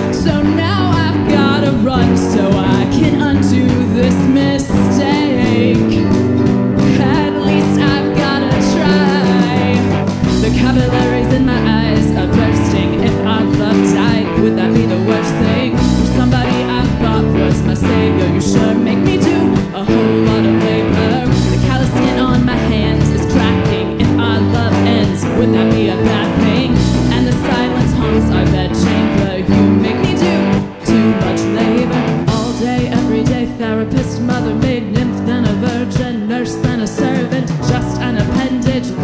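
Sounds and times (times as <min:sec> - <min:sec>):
drums: 0:00.0 - 0:39.0
electric guitar: 0:00.0 - 0:39.0
woman singing lead vocal: 0:00.0 - 0:39.0.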